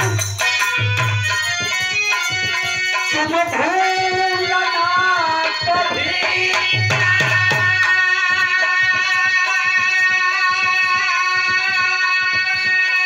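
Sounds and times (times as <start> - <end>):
dholak rhythm: 0.0 - 13.0
harmonium chords: 0.0 - 13.0.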